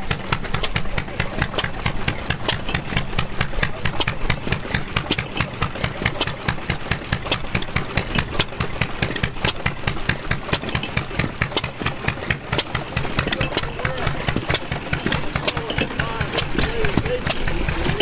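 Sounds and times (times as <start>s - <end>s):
stationary gas engines running: 0.0s - 18.0s.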